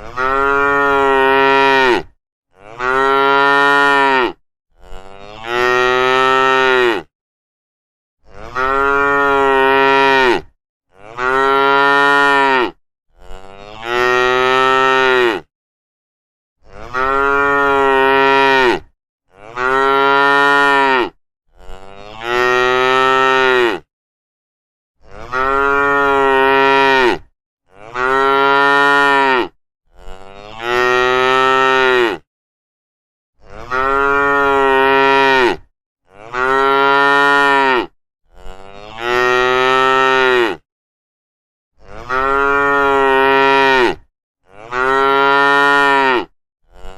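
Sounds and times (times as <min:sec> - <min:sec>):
cow mooing: 0:00.0 - 0:07.1, 0:08.2 - 0:15.5, 0:16.6 - 0:23.9, 0:25.1 - 0:32.3, 0:33.4 - 0:40.6, 0:41.8 - 0:46.9.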